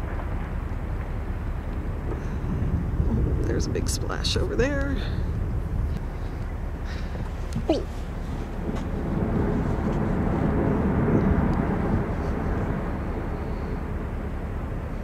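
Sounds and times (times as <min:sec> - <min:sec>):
low rumble of ice calving: 0:00.0 - 0:15.0.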